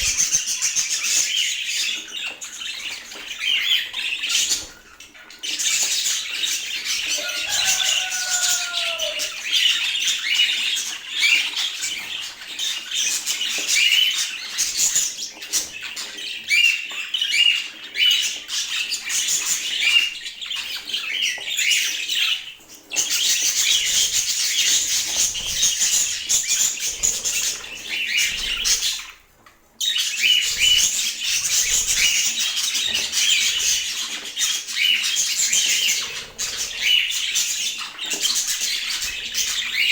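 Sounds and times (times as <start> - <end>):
budgerigars chattering: 0.0 - 29.2, 29.8 - 39.9.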